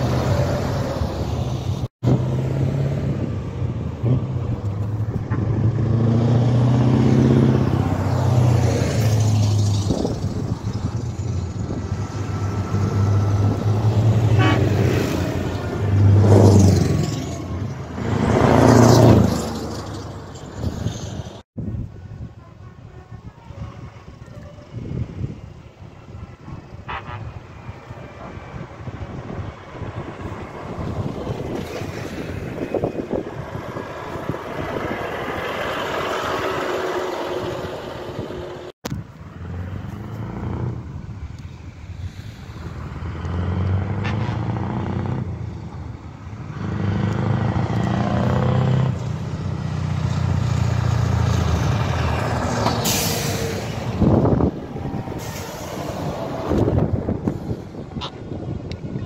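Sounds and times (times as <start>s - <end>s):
heavy trucks driving past: 0.0s - 21.4s, 23.6s - 59.0s.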